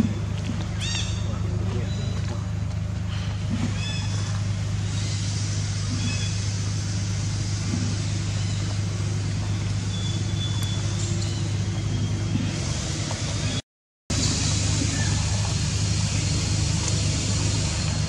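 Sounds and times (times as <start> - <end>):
low motor hum: 0.0 - 18.0
constant hiss: 1.5 - 11.7, 12.6 - 18.0.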